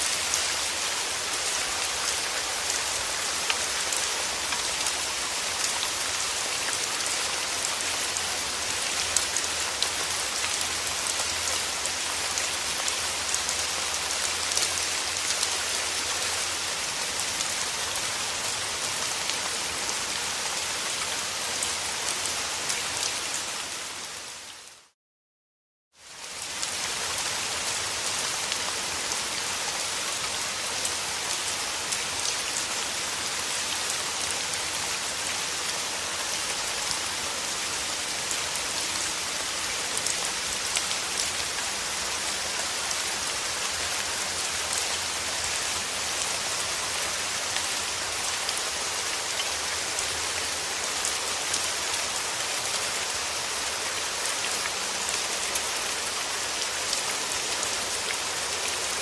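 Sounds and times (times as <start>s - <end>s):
heavy rain: 0.0s - 25.0s, 26.0s - 59.0s.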